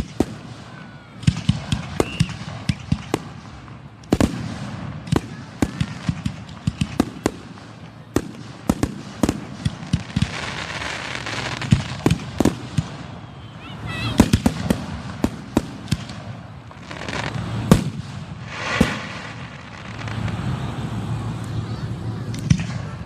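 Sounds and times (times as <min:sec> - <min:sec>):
fireworks bursting: 0:00.0 - 0:23.0
fireworks hiss: 0:00.0 - 0:23.0.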